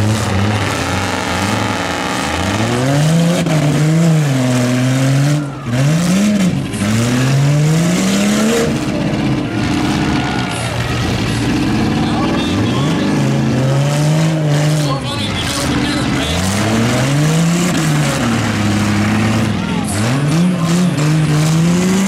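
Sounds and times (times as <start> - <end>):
truck engines revving hard: 0.0 - 22.0.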